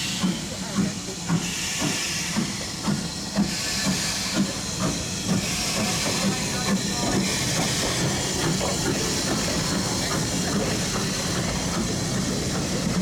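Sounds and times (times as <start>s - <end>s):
steam hissing: 0.0s - 13.0s
train running noise: 0.0s - 13.0s.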